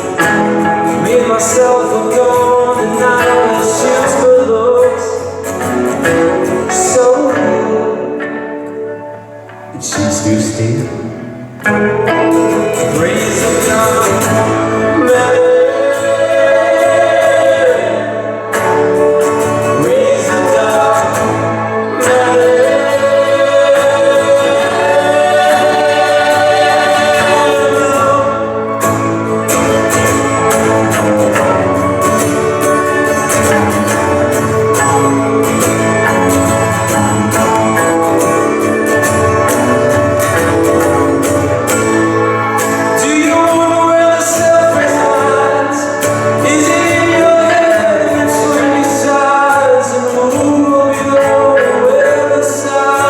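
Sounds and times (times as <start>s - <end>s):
live band instrumental music: 0.0s - 53.0s.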